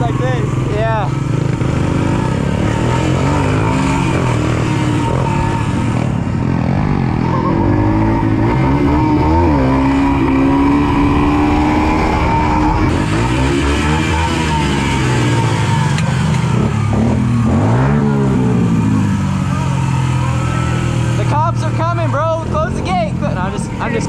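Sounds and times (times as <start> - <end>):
pit bike engines revving: 0.0 - 24.0.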